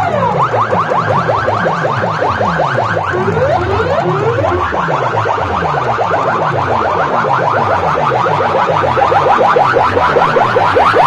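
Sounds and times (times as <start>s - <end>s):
electronic siren-like chirps: 0.0s - 11.0s.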